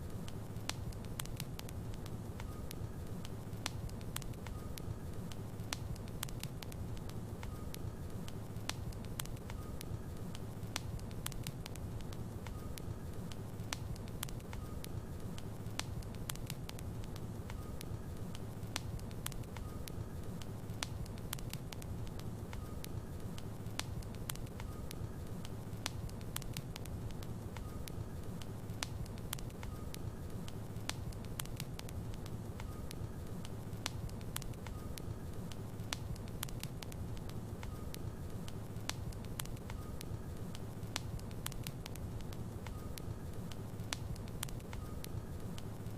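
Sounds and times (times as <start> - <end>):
logs crackling and popping: 0.0 - 45.9.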